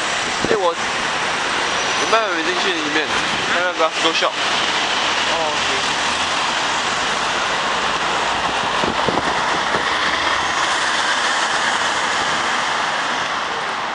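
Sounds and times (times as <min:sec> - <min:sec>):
city street traffic: 0:00.0 - 0:13.9.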